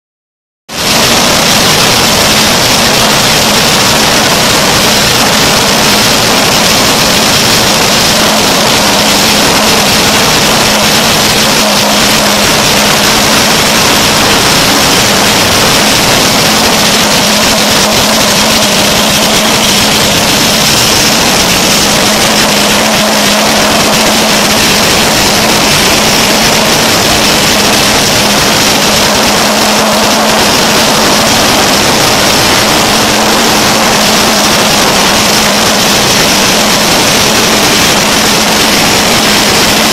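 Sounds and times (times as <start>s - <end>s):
industrial machinery running: 0.7s - 39.9s.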